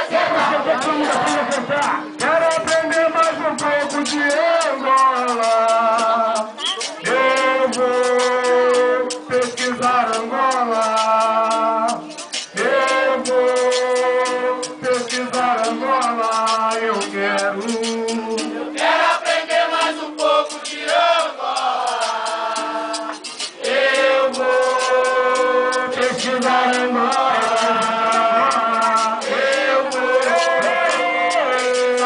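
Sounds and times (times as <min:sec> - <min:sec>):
chorus singing: 0:00.0 - 0:32.0
fast percussion beat: 0:00.0 - 0:32.0.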